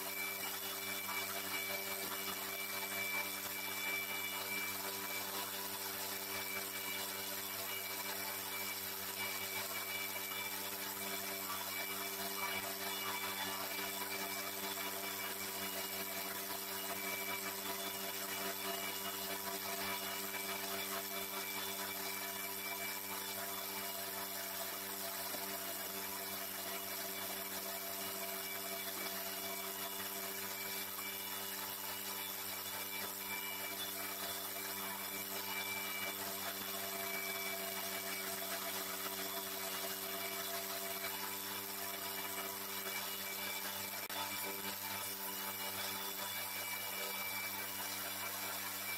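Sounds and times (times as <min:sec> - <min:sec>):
lathe motor humming: 0:00.0 - 0:48.9.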